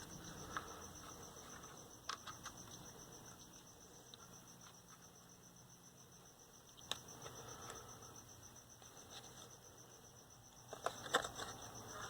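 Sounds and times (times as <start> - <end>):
faint high-pitched pulsing: 0.0 - 12.0.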